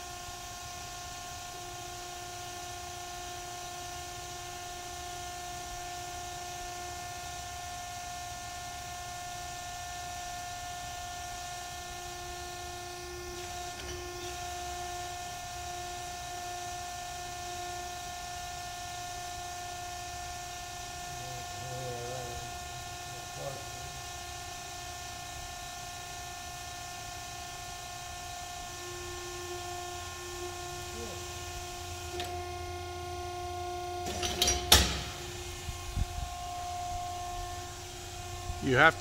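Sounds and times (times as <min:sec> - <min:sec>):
tube bender machine humming: 0:00.0 - 0:39.0.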